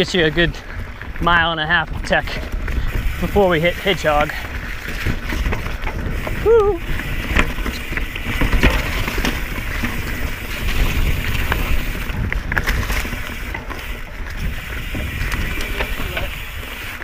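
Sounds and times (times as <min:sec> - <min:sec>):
bike clicks and rattles: 0:00.0 - 0:17.0
tyre noise: 0:00.0 - 0:17.0
wind rumble on microphone: 0:00.0 - 0:17.0.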